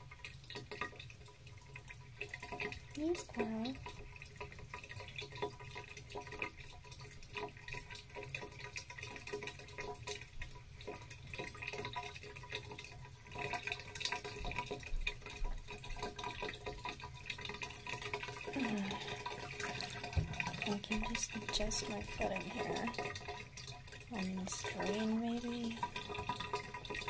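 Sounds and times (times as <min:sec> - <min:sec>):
bath water dripping and sloshing: 0:00.0 - 0:27.0.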